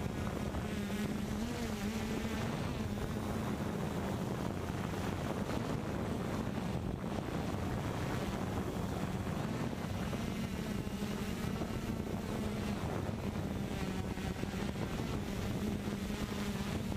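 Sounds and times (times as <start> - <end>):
drone propellers humming: 0.0 - 16.9
wind buffeting microphone: 0.0 - 16.9.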